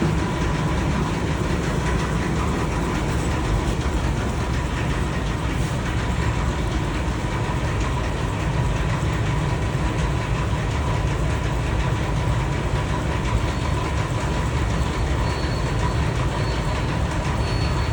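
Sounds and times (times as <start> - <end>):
furnace machine hum: 0.0 - 17.9.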